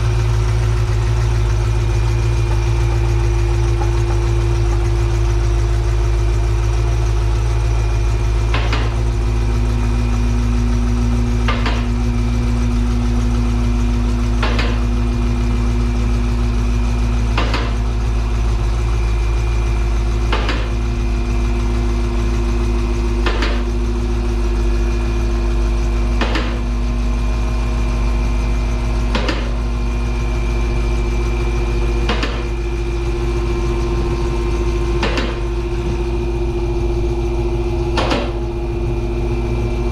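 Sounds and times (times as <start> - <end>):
loud low machine hum: 0.0 - 39.9.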